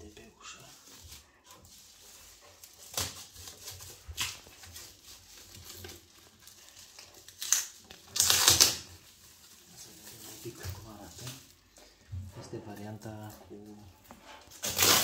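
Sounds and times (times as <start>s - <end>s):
plastic film peeling crackle: 0.0s - 11.6s, 14.5s - 15.0s.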